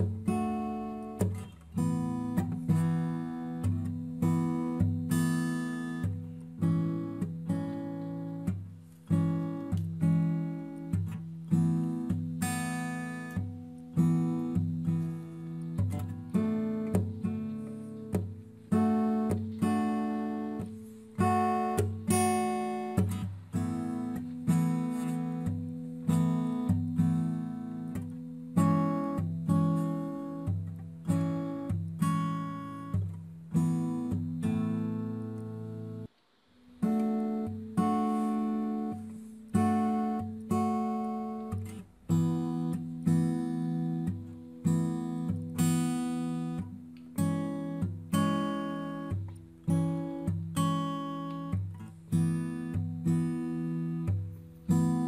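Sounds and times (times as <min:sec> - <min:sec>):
acoustic guitar music: 0:00.0 - 0:55.0.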